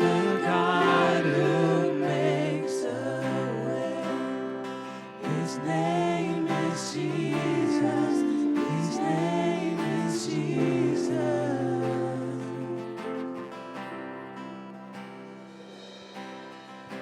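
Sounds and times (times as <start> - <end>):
worship band with singing: 0.0 - 17.0.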